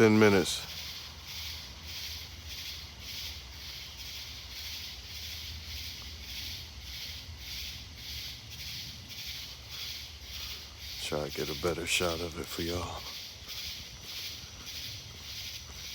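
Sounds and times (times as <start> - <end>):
night insects chirping: 0.0 - 15.9.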